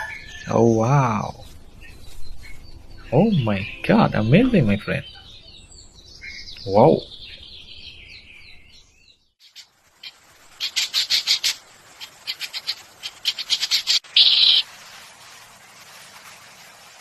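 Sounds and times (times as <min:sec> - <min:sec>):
songbird singing: 0:00.0 - 0:14.6.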